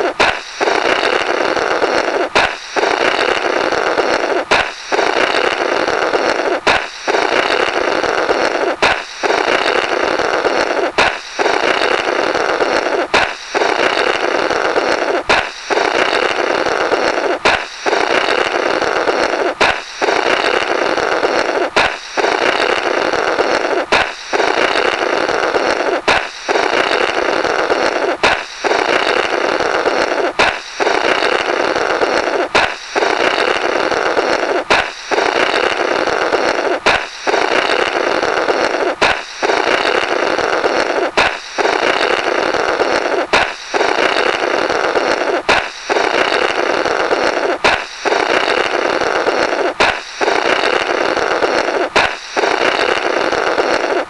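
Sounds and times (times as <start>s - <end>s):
balloon popping: 0.0s - 54.0s
buzzy sputtering balloon blow: 0.0s - 54.0s.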